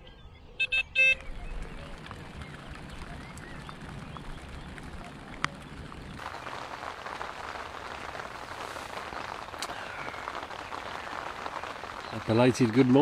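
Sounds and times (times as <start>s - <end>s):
rain pattering: 1.5s - 13.0s.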